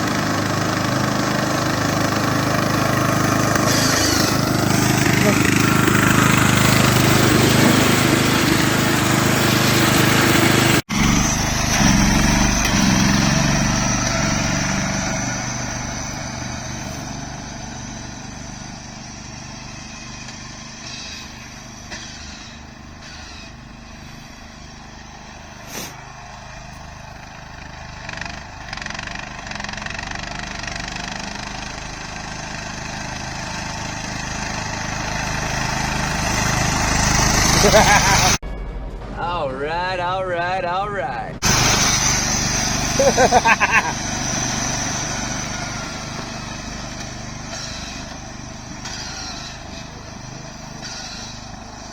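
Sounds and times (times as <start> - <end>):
riding lawnmower engine: 0.0 - 51.9.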